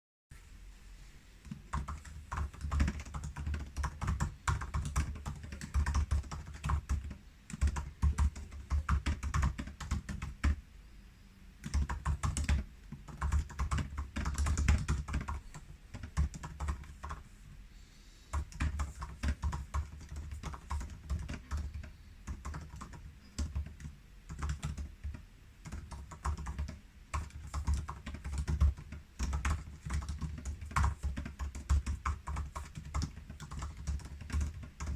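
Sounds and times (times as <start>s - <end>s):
laptop keyboard typing: 1.4s - 10.6s, 11.6s - 17.3s, 18.3s - 34.9s.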